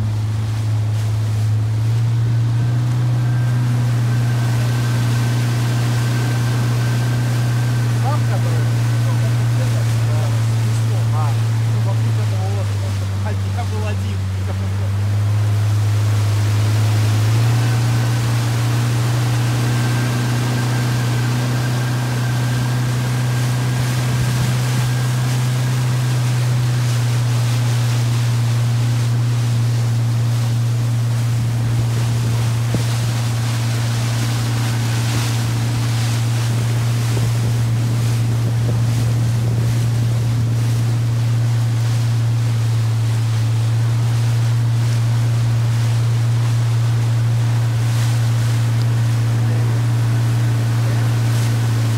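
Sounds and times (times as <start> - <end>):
motorboat engine hum: 0.0 - 51.9
rushing water: 0.0 - 51.9
wind: 0.0 - 51.9.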